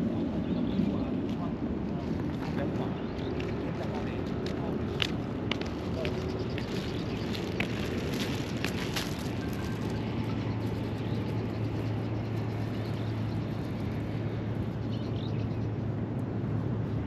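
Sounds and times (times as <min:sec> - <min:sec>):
rushing background noise: 0:00.0 - 0:17.0
steady low hum: 0:00.0 - 0:17.0.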